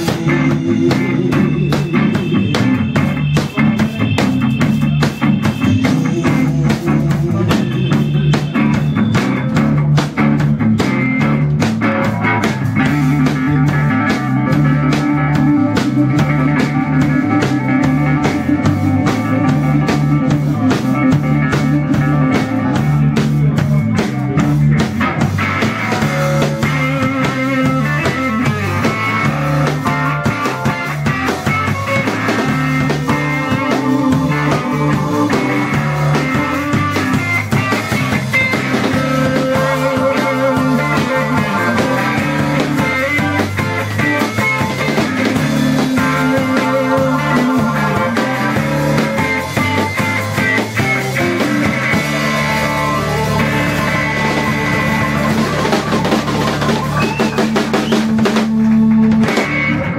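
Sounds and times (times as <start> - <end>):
bass line: 0.0 - 59.9
drum kit beat: 0.0 - 59.9
electric guitar: 0.0 - 59.9
keyboard: 0.0 - 59.9.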